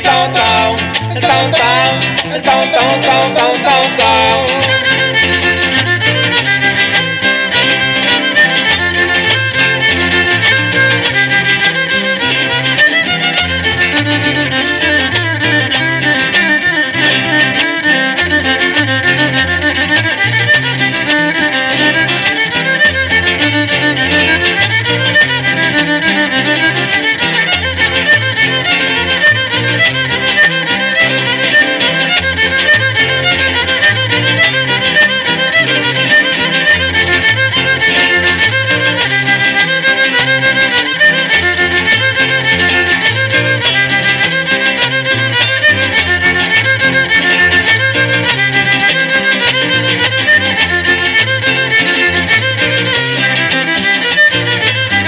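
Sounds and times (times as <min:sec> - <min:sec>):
violin melody: 0:00.0 - 0:55.0.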